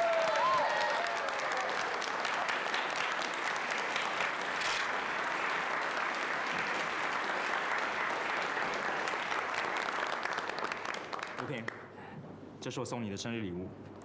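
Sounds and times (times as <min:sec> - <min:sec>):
people clapping: 0:00.0 - 0:12.0.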